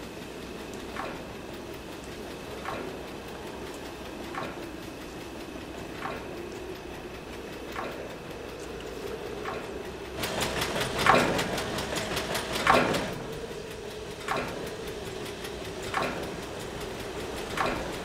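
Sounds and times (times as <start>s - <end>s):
counter ticking: 0.0s - 18.0s
fuel pump humming: 0.0s - 18.0s.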